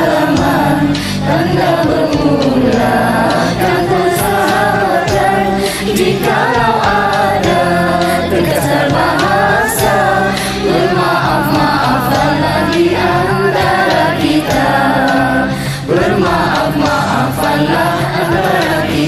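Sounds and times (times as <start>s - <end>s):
low bass notes: 0.0s - 19.0s
voices singing in harmony: 0.0s - 19.0s.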